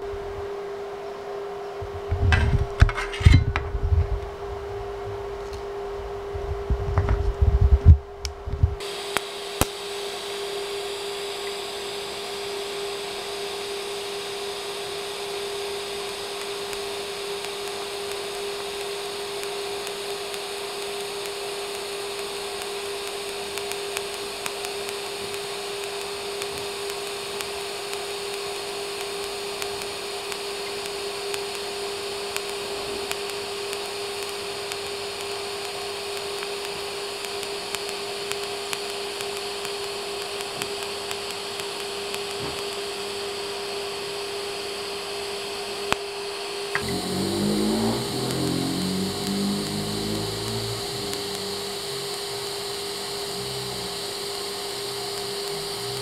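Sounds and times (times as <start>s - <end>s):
welding arc hissing and humming: 1.1s - 56.0s.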